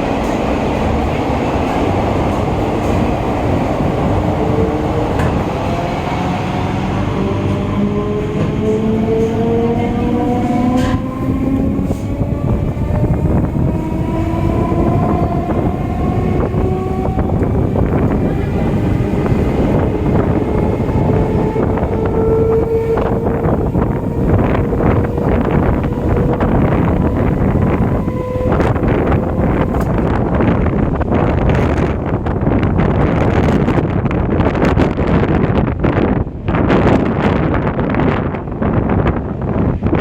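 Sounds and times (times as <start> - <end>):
wheels rumbling on track: 0.0 - 40.0.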